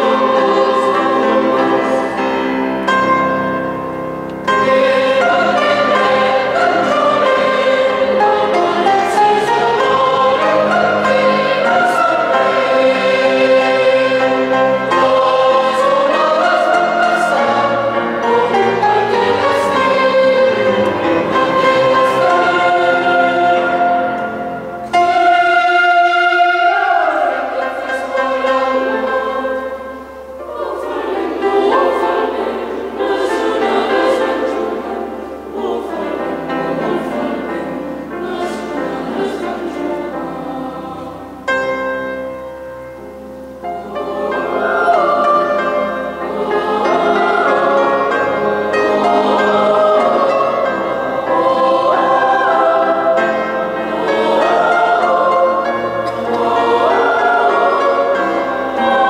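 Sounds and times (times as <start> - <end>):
boys' choir singing: 0.0 - 42.2, 43.4 - 59.0.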